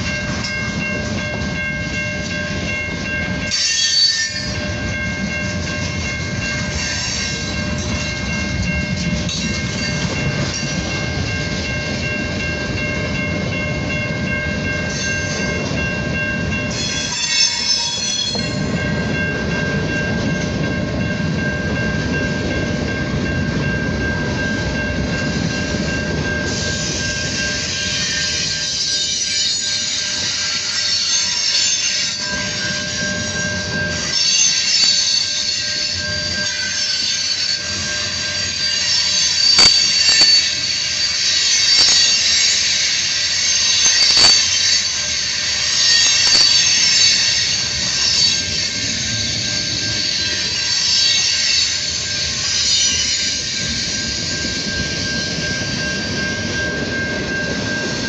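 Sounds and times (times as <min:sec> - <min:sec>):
wheels squealing on rails: 0:00.0 - 0:58.0.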